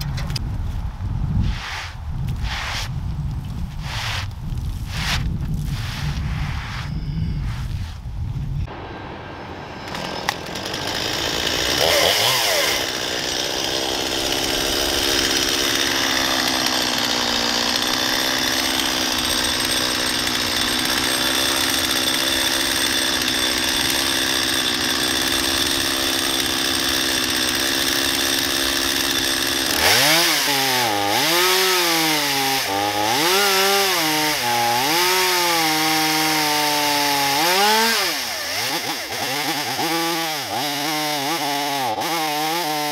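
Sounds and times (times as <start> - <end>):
chainsaw cutting through log: 1.4 - 3.0, 3.8 - 6.6, 9.8 - 42.9.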